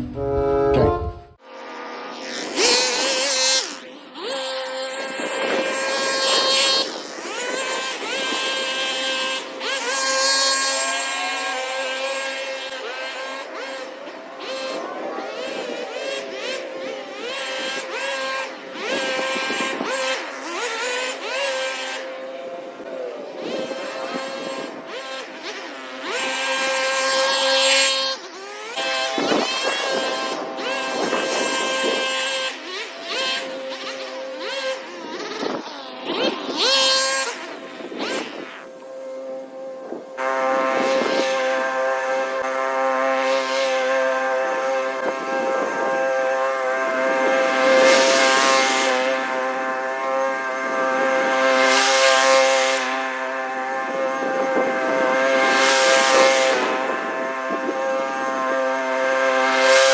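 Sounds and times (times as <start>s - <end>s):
small gasoline engine revving: 0.0s - 59.9s.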